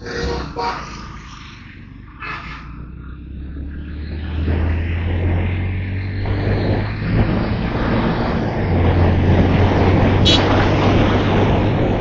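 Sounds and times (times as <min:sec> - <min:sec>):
motorcycle engine cruising: 0:00.0 - 0:12.0
road noise: 0:00.0 - 0:12.0
rushing wind: 0:00.0 - 0:12.0.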